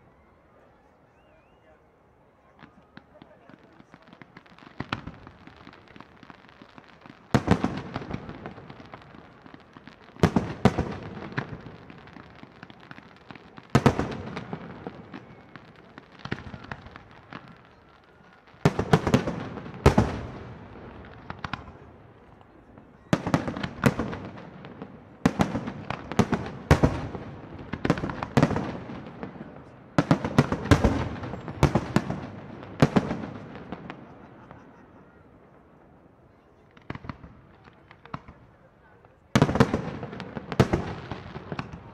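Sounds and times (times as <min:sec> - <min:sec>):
fireworks bursting with bangs: 0:02.4 - 0:41.9.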